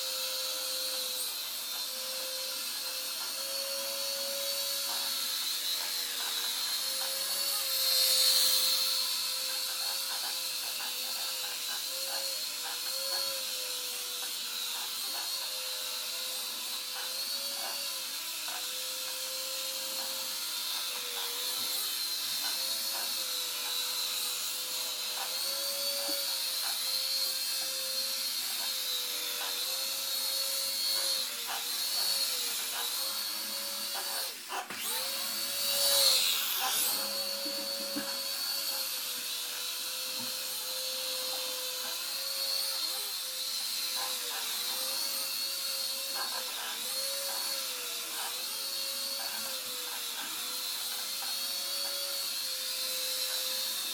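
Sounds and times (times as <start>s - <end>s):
small electric motors whining: 0.0s - 53.9s.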